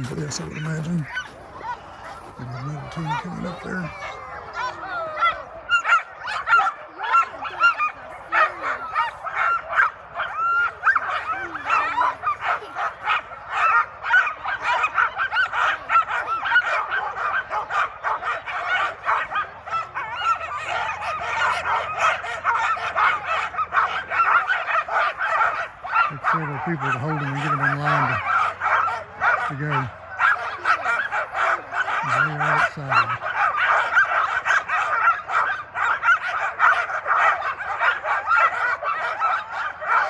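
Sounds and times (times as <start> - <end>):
sled dogs barking and yelping: 0.0 - 40.0.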